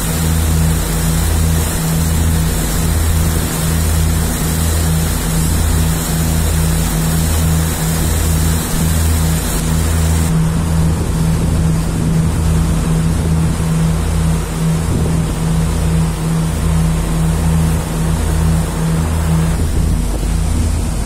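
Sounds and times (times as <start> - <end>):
boat diesel engines droning: 0.0 - 21.0
hiss of churning wake: 0.0 - 21.0.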